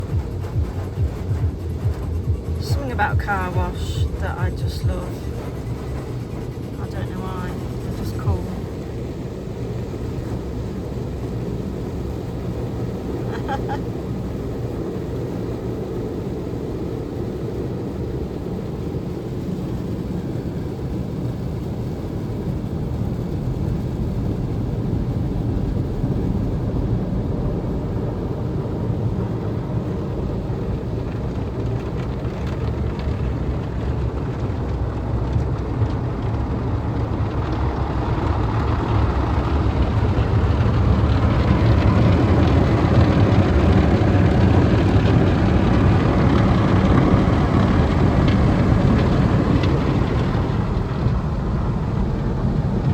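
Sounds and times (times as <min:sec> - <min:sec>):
car wash machinery rumbling: 0:00.0 - 0:52.9.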